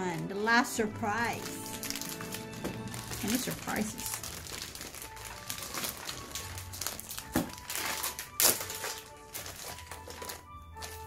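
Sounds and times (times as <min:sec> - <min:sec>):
light background music: 0:00.0 - 0:11.0
plastic packaging crinkling: 0:00.0 - 0:11.0.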